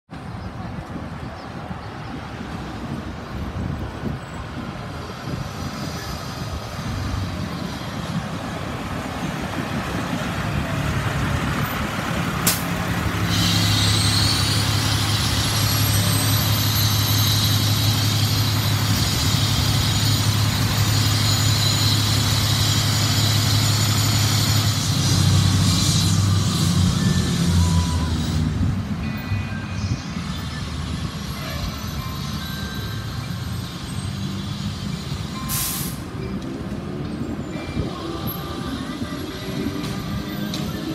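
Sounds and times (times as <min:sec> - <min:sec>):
fire engine diesel engine: 0:00.1 - 0:40.9.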